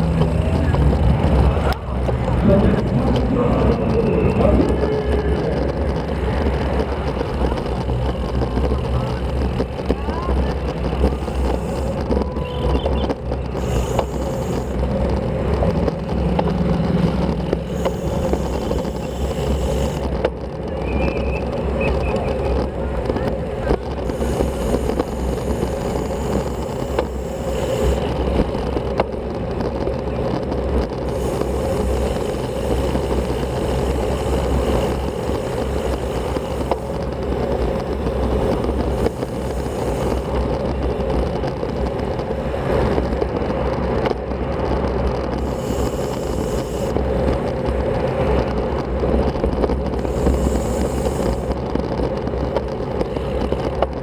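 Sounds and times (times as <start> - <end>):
bike tyres on road: 0.0 - 54.0
wind rumble on microphone: 0.0 - 54.0.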